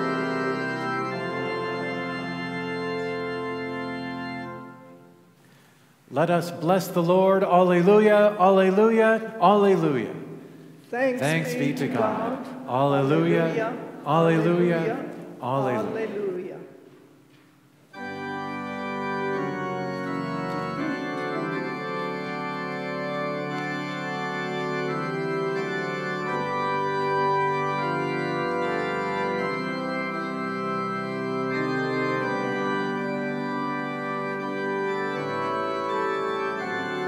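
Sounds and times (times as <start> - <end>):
organ playing sustained chords: 0.0 - 17.0, 17.7 - 37.0.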